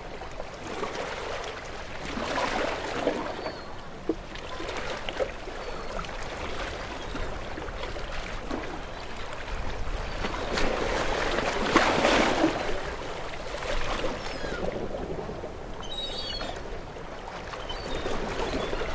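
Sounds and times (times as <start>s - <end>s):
water splashing and lapping: 0.2s - 15.5s.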